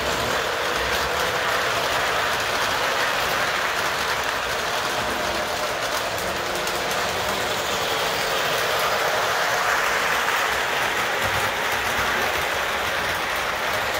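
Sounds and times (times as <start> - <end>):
model train whirring on track: 0.0 - 13.9.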